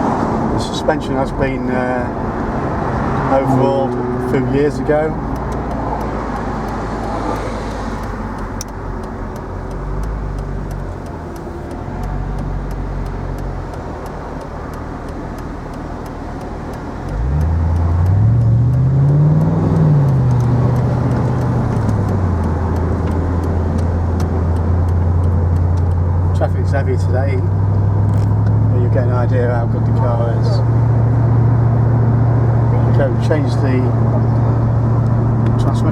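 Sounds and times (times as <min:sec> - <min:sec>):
car engine accelerating: 0:00.0 - 0:35.9
road noise: 0:00.0 - 0:35.9.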